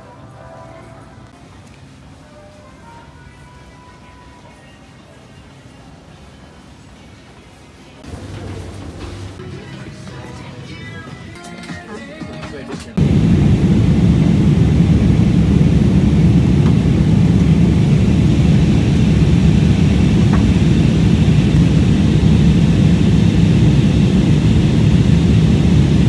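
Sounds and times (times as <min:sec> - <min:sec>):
airplane cabin drone: 0:00.0 - 0:11.7, 0:12.9 - 0:26.0.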